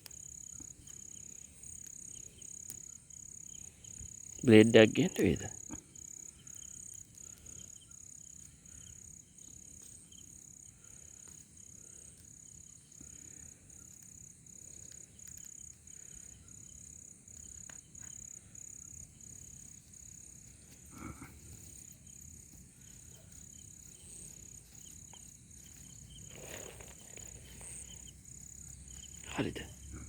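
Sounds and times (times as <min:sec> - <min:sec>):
insect chirping trill: 0:00.0 - 0:30.0
rustle: 0:00.0 - 0:30.0.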